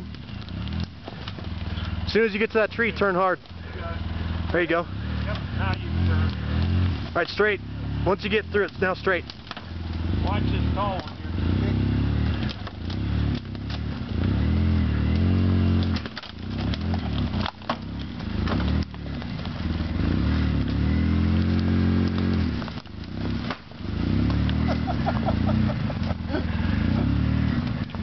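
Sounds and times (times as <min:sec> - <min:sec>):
branches cracking under tyres: 0:00.0 - 0:28.0
off-road vehicle engine revving: 0:00.0 - 0:28.0.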